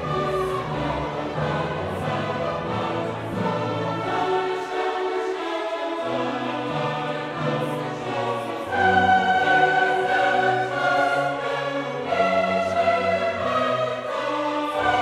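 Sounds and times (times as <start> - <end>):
choir singing long held notes: 0.0 - 15.0.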